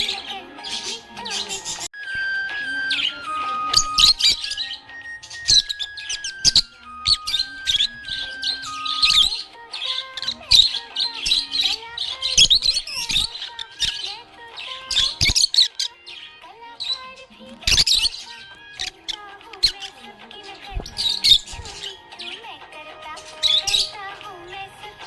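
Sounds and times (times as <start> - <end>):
budgie chirping: 0.0 - 25.0.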